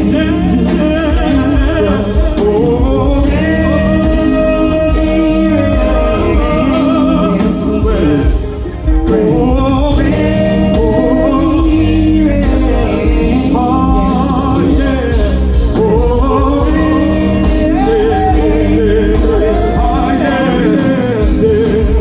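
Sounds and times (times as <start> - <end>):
live rnb band playing: 0.0 - 22.0.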